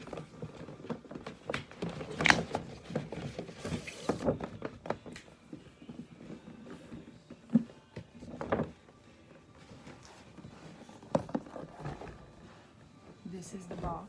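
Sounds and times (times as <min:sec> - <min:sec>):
paper and cardboard rustling: 0:00.0 - 0:14.0.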